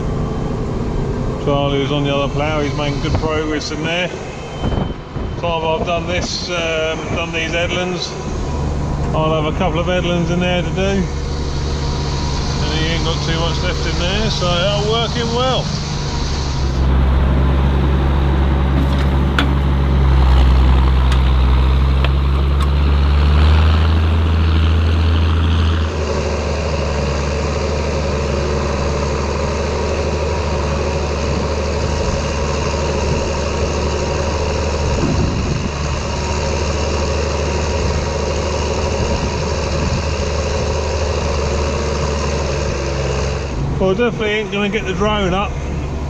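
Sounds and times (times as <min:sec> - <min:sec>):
tractor diesel engine running: 0:08.2 - 0:46.0.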